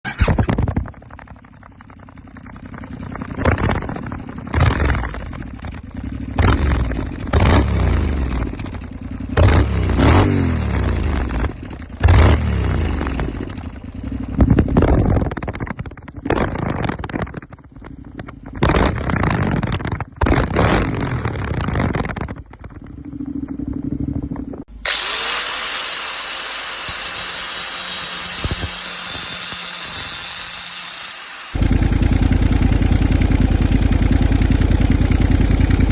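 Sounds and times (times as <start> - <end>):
motorcycle engine revving: 0.0 - 25.6, 26.5 - 35.9.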